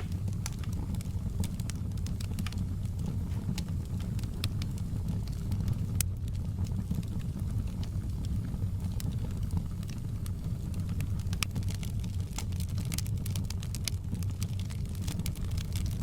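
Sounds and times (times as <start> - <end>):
fire pops and snaps: 0.0 - 16.0
low rumble of burning: 0.0 - 16.0
wood fire crackling: 0.0 - 16.0.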